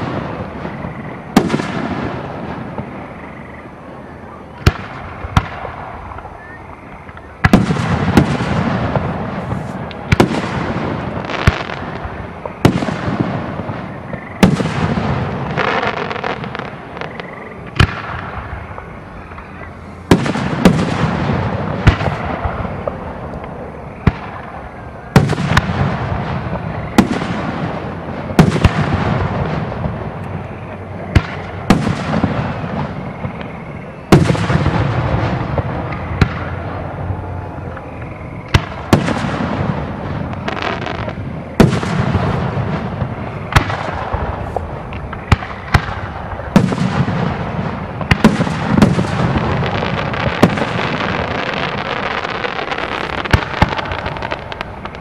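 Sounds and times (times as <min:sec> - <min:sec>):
fireworks bursting with echo: 0:00.0 - 0:55.0.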